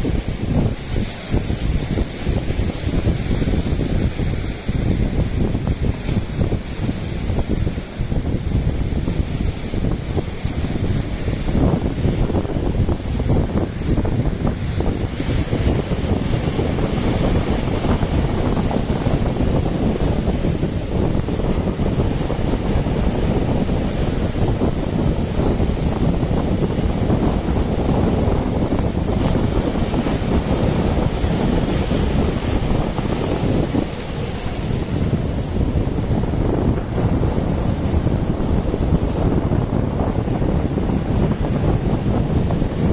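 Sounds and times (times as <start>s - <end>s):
sea waves: 0.0s - 42.9s
wind buffeting microphone: 0.0s - 42.9s.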